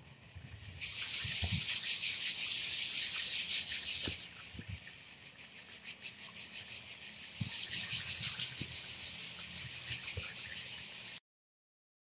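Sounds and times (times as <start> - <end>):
cicadas buzzing: 0.0 - 11.2.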